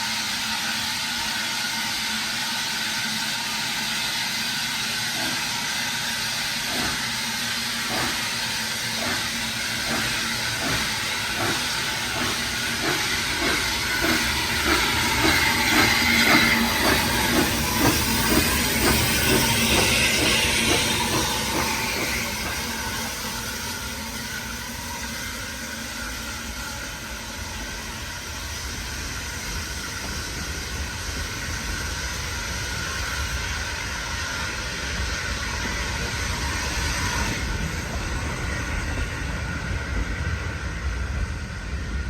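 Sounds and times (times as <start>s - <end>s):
locomotive exhaust chuffs: 0.0s - 42.0s
steam locomotive hissing: 0.0s - 42.0s.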